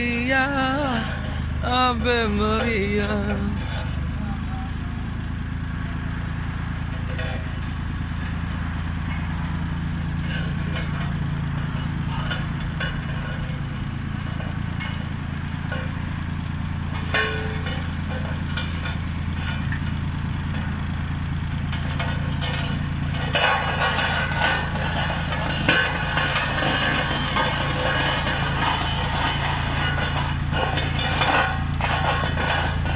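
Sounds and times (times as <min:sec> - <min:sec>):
loud rough noise: 0:00.0 - 0:32.9
road roller engine running: 0:00.0 - 0:32.9.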